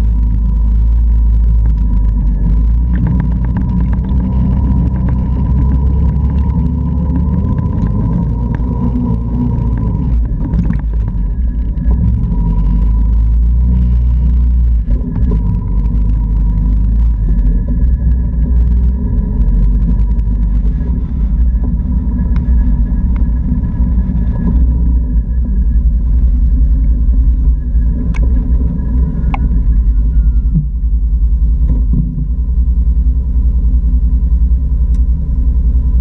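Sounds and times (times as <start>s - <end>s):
atv engine rumbling and whining: 0.0s - 36.0s.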